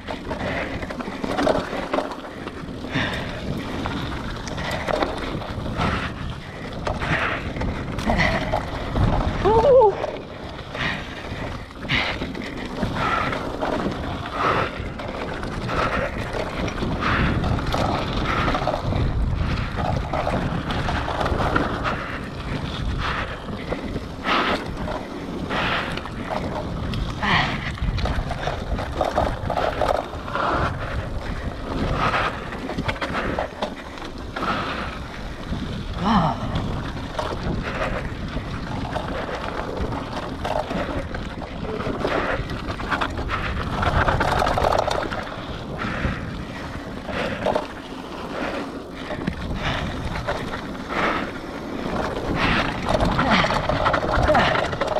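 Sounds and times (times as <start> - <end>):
bike knocking and rattling: 0.0 - 54.9
bike tyres rolling on dirt: 0.0 - 54.9
wind buffeting microphone: 0.0 - 54.9.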